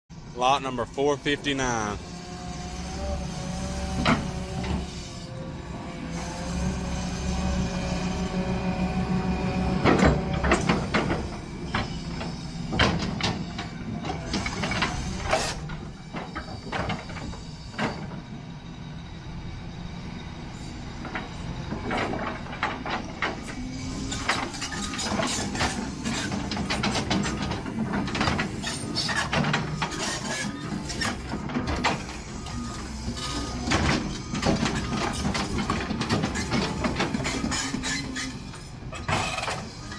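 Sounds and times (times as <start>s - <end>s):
diesel engine hum: 0.1s - 16.4s, 17.3s - 39.9s
steel tracks clanking and squeaking: 0.1s - 39.9s.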